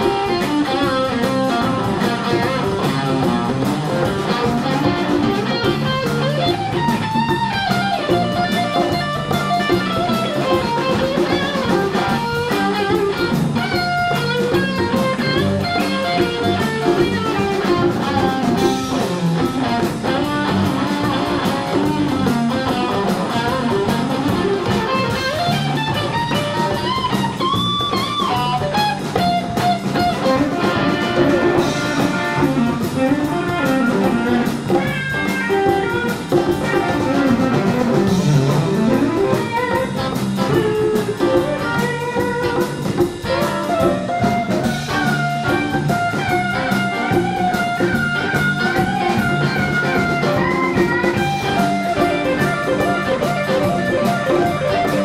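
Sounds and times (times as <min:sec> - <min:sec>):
blues band playing: 0:00.0 - 0:55.0
electric guitar lead with bends: 0:00.0 - 0:55.0.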